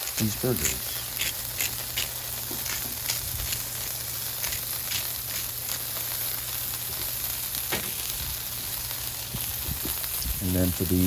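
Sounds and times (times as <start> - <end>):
burger patties sizzling on griddle: 0.0 - 11.0.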